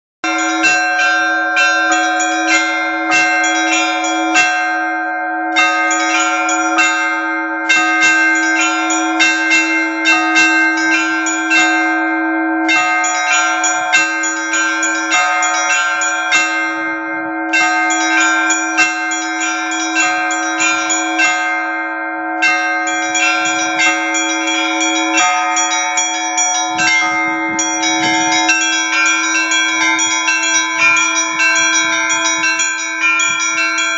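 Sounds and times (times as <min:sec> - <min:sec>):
large bell humming: 0:00.2 - 0:33.9
small high bells ringing: 0:00.2 - 0:33.9.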